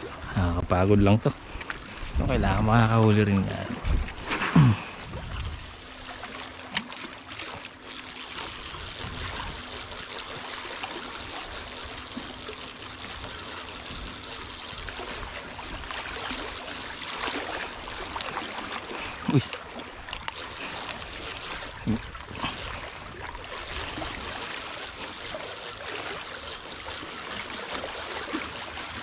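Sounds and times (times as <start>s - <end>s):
sea water lapping over rocks: 0.0s - 29.0s.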